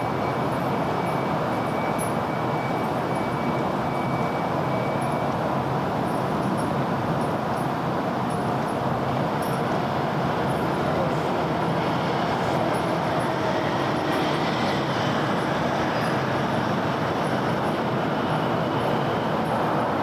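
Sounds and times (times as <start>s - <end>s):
dense road traffic: 0.0s - 20.0s.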